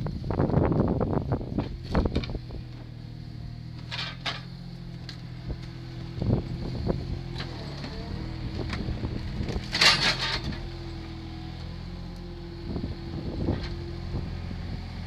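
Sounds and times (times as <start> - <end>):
loader engine running: 0.0 - 15.0.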